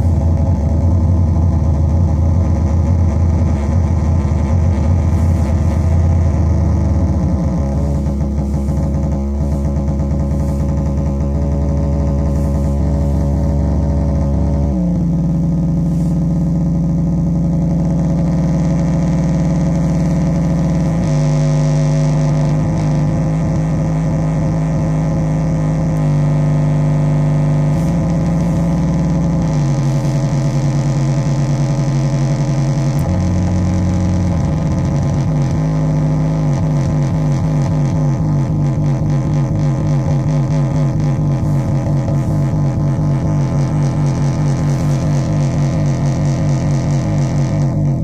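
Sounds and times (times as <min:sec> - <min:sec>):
buzzing synth drone: 0:00.0 - 0:48.0.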